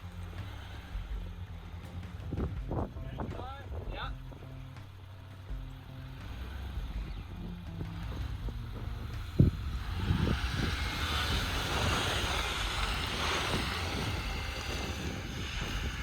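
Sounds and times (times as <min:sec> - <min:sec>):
truck engine running: 0:00.0 - 0:16.0
wind noise: 0:00.0 - 0:16.0.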